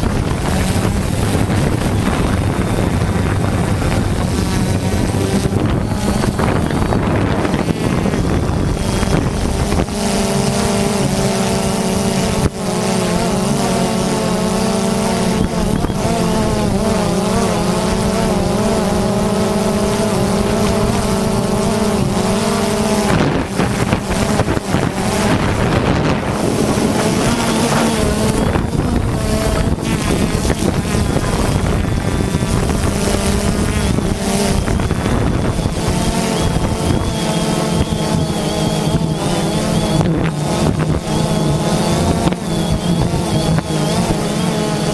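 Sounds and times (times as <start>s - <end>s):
drone motors buzzing: 0.0s - 44.9s
wind noise on microphone: 0.0s - 44.9s.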